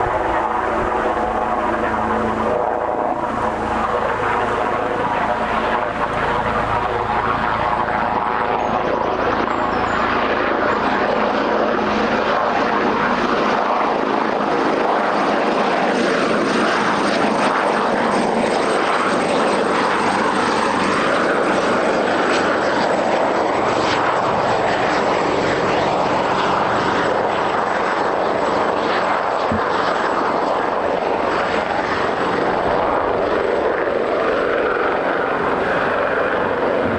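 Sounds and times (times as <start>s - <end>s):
high turbine whine: 0.0s - 14.2s, 18.4s - 36.9s
helicopter rotor and engine din: 0.0s - 36.9s.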